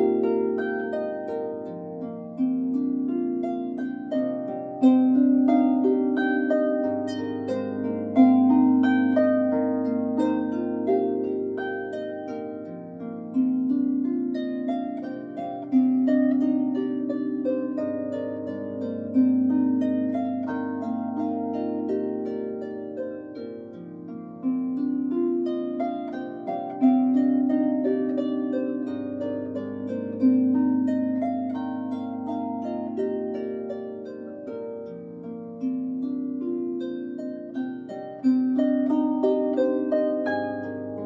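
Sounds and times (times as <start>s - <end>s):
harp plucked melody: 0.0s - 41.0s.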